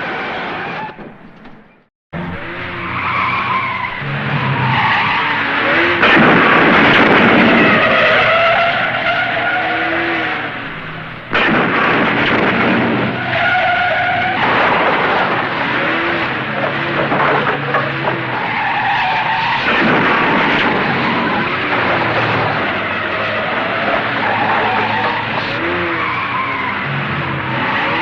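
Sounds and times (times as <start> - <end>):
car engines running: 0.0 - 28.0
car tyres squealing: 0.0 - 28.0.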